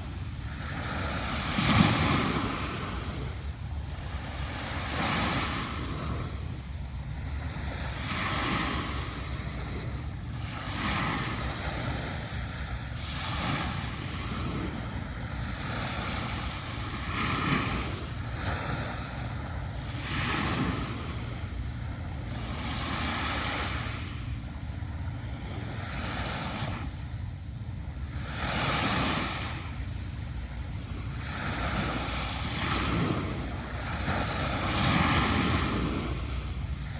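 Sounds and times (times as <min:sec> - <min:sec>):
small waves washing on sand: 0:00.0 - 0:36.9
wind rumble on microphone: 0:00.0 - 0:36.9.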